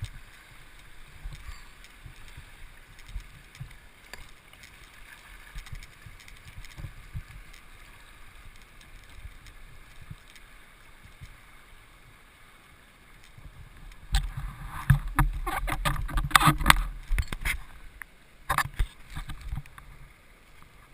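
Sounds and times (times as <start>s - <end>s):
choppy water splashing: 0.0s - 20.9s
river water rushing: 0.0s - 20.9s.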